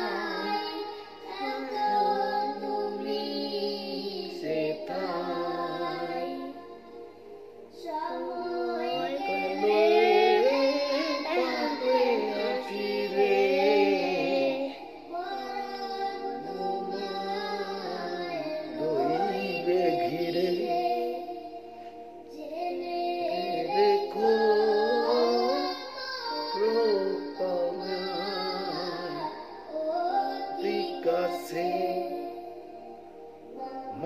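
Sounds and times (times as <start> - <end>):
boy singing devotional song: 0.0 - 34.0.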